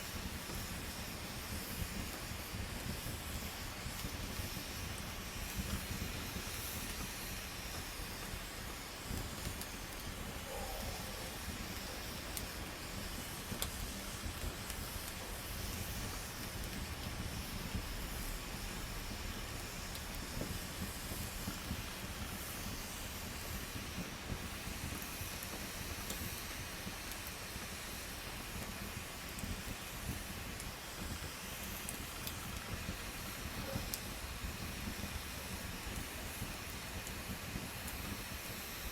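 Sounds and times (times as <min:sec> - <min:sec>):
campfire crackling and hissing: 0:00.0 - 0:38.9.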